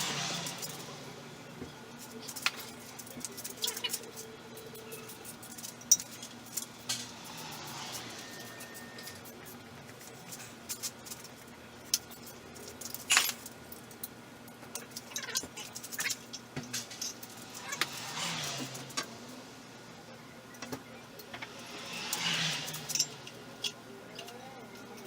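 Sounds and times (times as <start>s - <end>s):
light metallic clinks and clicks: 2.0s - 19.1s, 21.2s - 25.0s.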